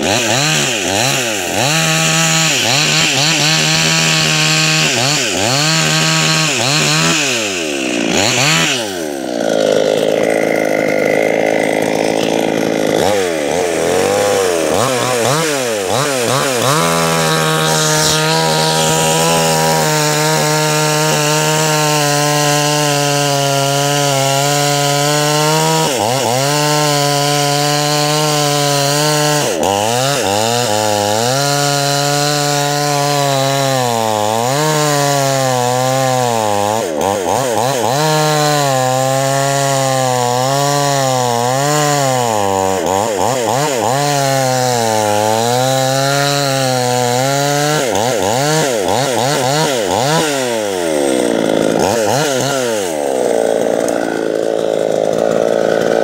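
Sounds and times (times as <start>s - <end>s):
chainsaw cutting through log: 0.0s - 56.0s.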